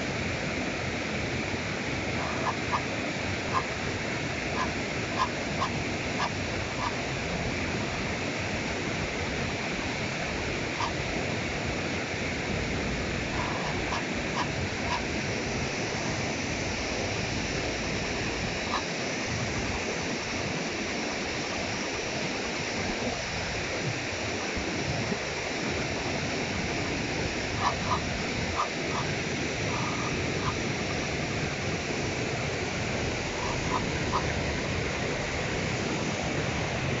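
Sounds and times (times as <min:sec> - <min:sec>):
river water pouring over weir: 0:00.0 - 0:37.0.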